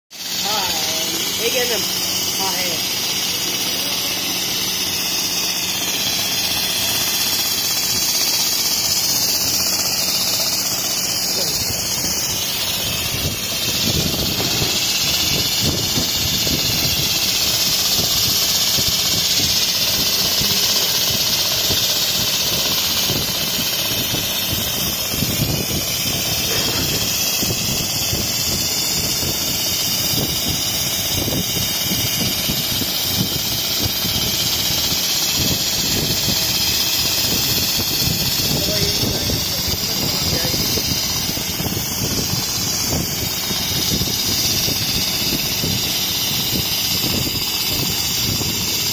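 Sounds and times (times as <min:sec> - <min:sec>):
steady high hiss: 0:00.2 - 0:48.9.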